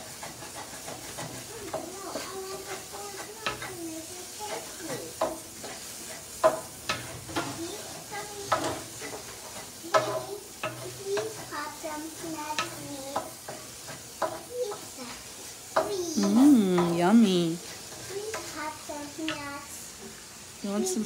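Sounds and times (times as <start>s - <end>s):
spatula scraping and knocking pan: 0.0s - 17.0s, 17.6s - 20.3s
eggs sizzling in a frying pan: 0.0s - 21.0s.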